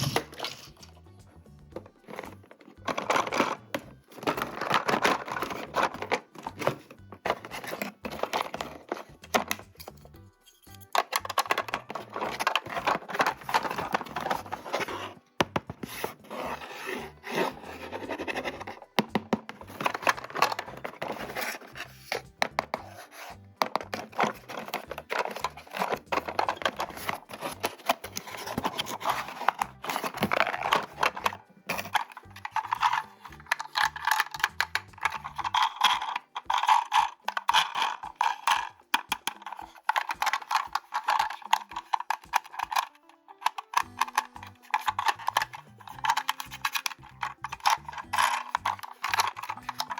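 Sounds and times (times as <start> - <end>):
toy packaging scraping and clicking: 0.0 - 49.9.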